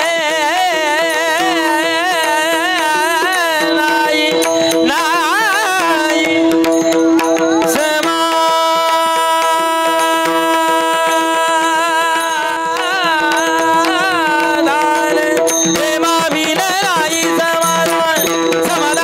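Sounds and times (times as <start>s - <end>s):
man singing ornamented phrases: 0.0s - 19.0s.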